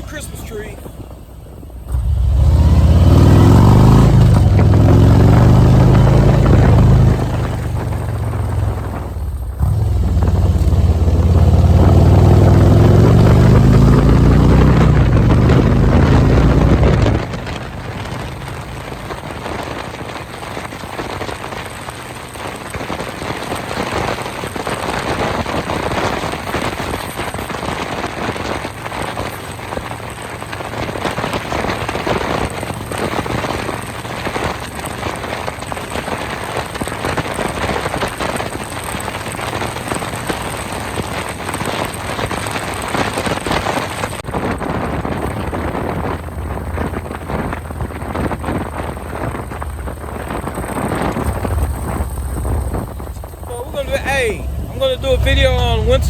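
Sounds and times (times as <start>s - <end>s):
motorcycle engine accelerating: 0.0s - 56.0s
rushing noise with crackles: 0.0s - 56.0s.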